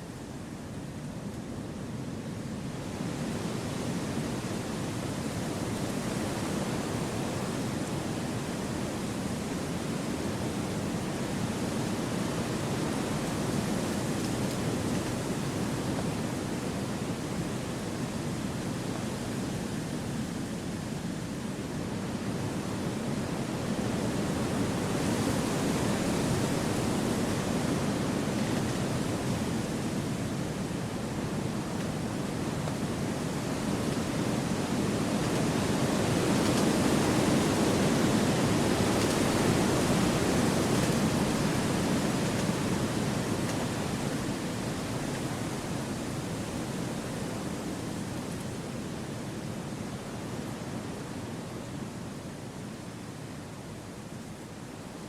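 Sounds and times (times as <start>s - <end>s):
wind rushing through trees: 0.0s - 55.0s.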